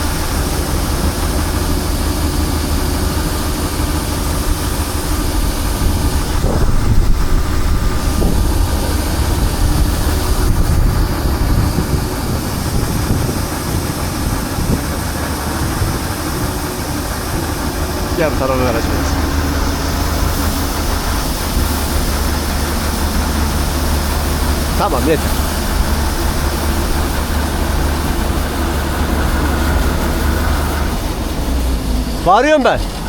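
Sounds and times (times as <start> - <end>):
combine harvester engine humming: 0.0 - 33.0.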